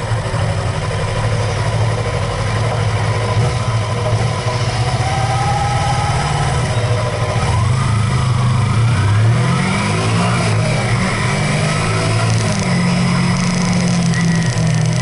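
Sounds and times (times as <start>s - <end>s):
vehicle engine accelerating: 0.0s - 15.0s.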